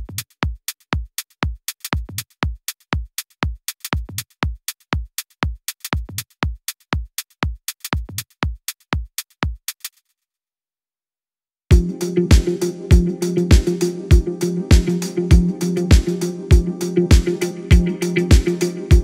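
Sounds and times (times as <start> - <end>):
electronic music with drum-machine beat: 0.0 - 9.8, 11.7 - 19.0.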